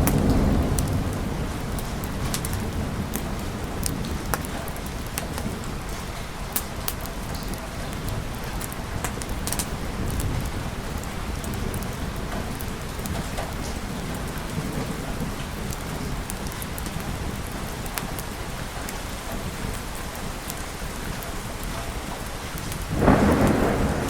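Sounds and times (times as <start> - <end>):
low rolling thunder: 0.0 - 18.6, 22.9 - 24.0
steady rainfall: 0.0 - 24.0.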